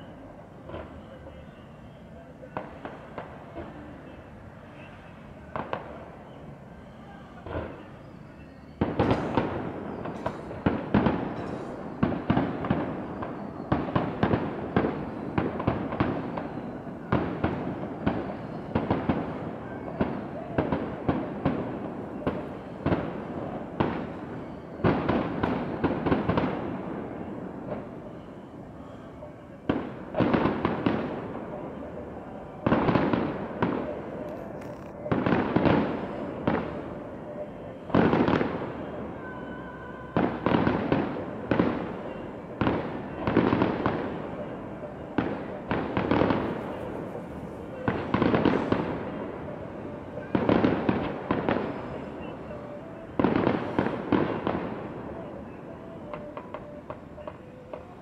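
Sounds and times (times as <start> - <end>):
fireworks bursting: 7.4 - 29.0, 29.7 - 58.0.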